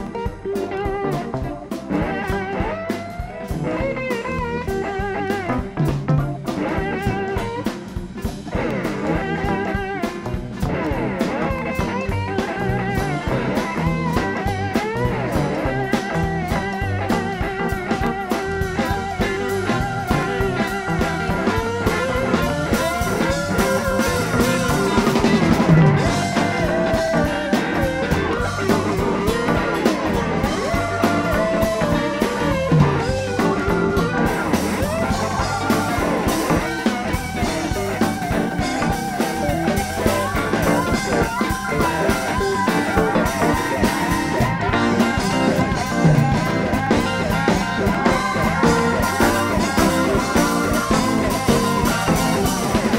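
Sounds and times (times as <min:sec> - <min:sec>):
blues-rock band playing: 0:00.0 - 0:52.9
drum kit: 0:00.0 - 0:52.9
lead electric guitar bending notes: 0:00.0 - 0:52.9.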